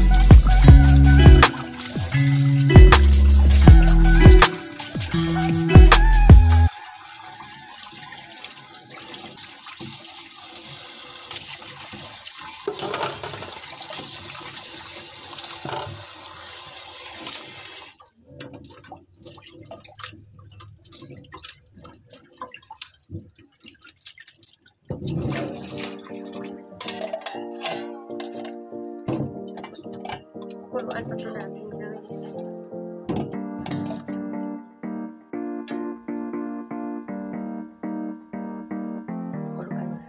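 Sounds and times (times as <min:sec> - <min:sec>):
hands rubbing and rinsing meat: 0:00.0 - 0:32.3
water splashes and drips: 0:00.0 - 0:34.4
tap water running into bowl: 0:00.2 - 0:05.8, 0:06.7 - 0:34.2.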